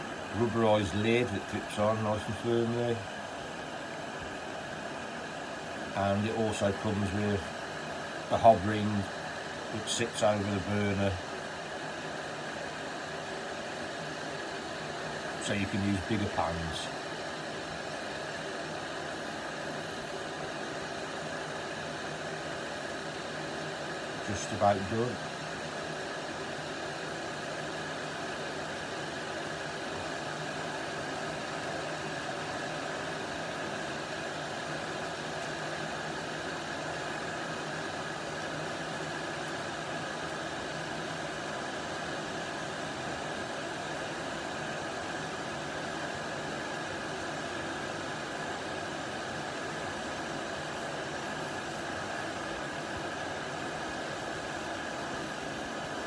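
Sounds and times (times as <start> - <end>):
gas stove burner hissing: 0.0 - 56.0.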